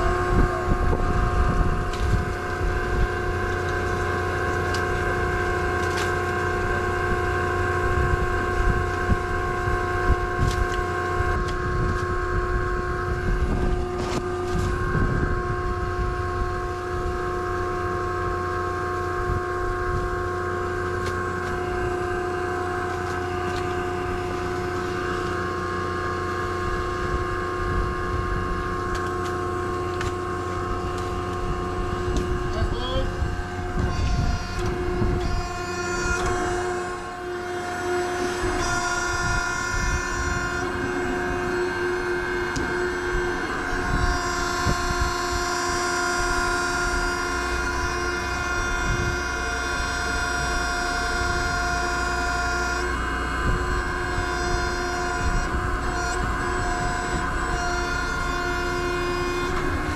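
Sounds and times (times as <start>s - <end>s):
machinery drone and whine: 0.0s - 59.9s.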